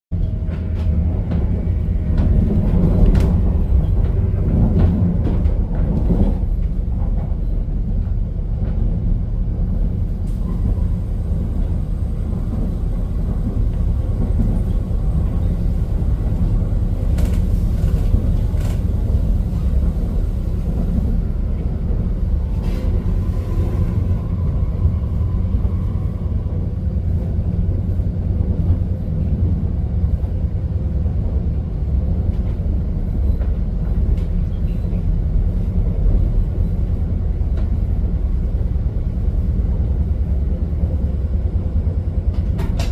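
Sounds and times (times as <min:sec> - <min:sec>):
train rumble inside carriage: 0:00.1 - 0:42.9.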